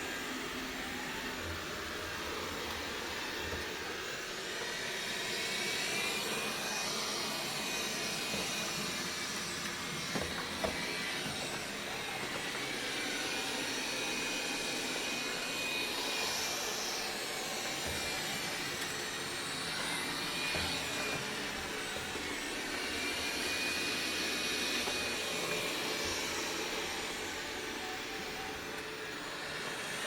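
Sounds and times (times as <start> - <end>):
robot vacuum running: 0.0 - 30.0.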